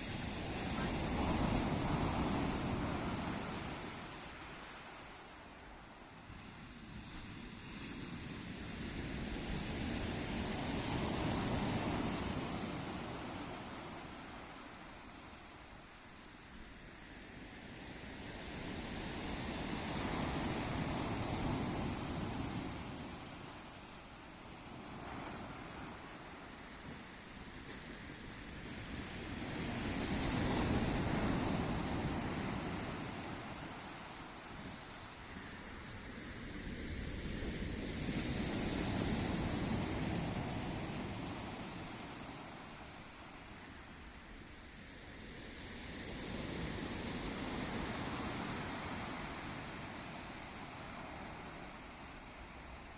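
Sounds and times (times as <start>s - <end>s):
sea waves washing in: 0.0s - 52.9s.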